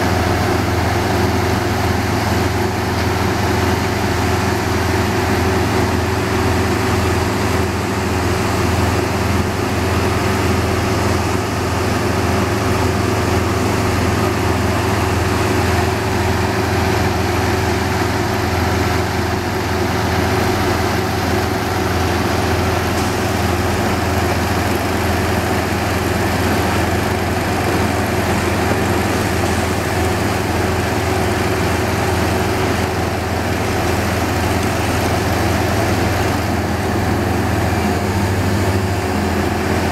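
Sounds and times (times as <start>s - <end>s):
diesel machinery engine drone: 0.0s - 39.9s.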